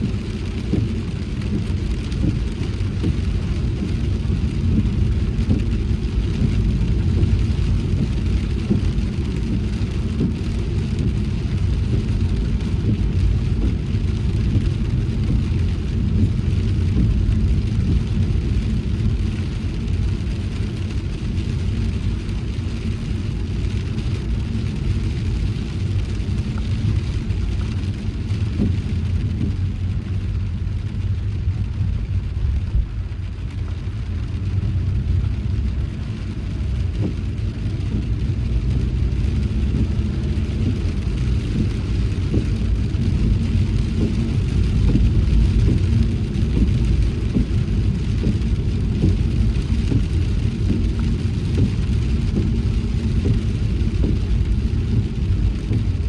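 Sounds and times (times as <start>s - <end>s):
car driving on wet road: 0.0s - 56.0s
hiss of rain and spray: 0.0s - 56.0s.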